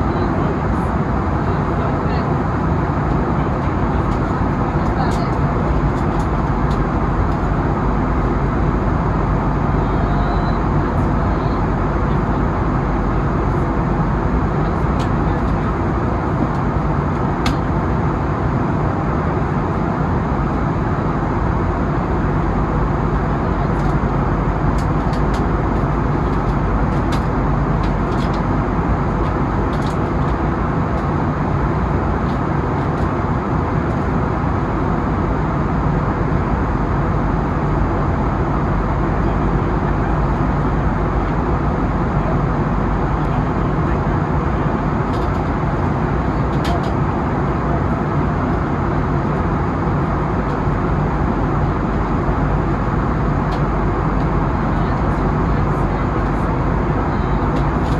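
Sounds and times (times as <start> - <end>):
jet cabin engine and air noise: 0.0 - 57.9.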